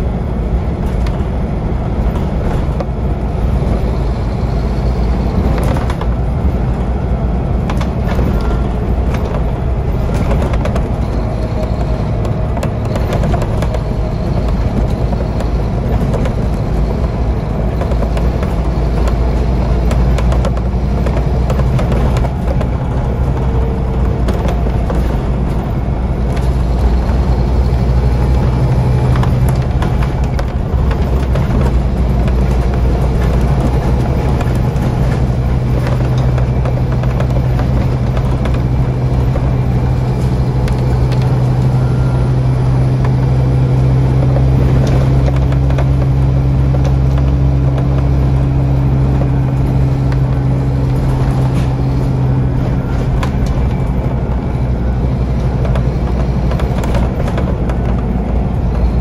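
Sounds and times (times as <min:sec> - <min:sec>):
bus diesel engine droning: 0:00.0 - 0:59.0
interior rattles: 0:00.6 - 0:59.0.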